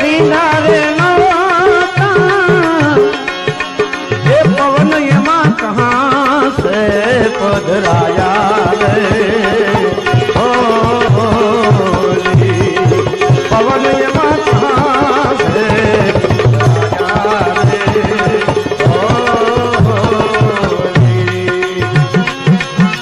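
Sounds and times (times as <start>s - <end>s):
tabla rhythm: 0.0s - 23.0s
wavering instrumental melody: 0.0s - 23.0s.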